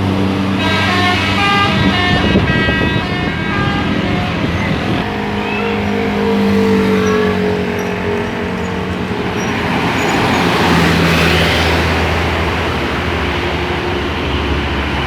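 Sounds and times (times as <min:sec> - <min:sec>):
bus passing with sinking tone: 0:00.0 - 0:15.0
engine and road noise: 0:00.0 - 0:15.0.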